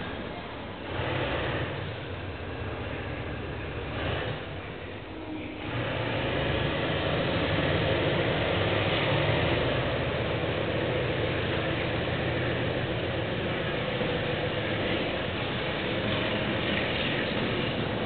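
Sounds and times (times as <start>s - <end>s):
diesel locomotive engine drone: 0.0s - 18.0s
rail and train noise: 0.0s - 18.0s.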